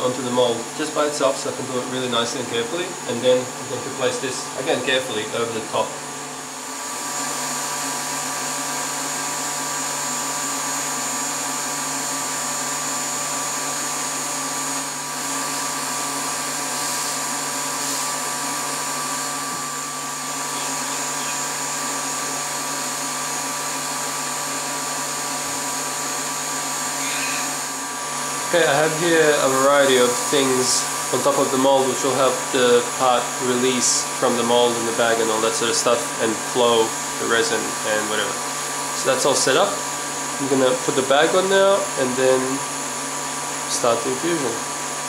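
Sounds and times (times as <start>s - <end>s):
vacuum pump humming and whining: 0.0s - 45.0s.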